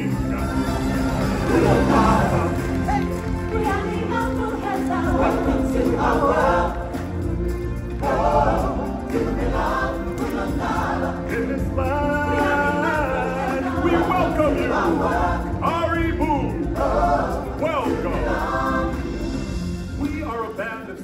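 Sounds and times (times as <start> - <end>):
choir singing: 0.0 - 20.4.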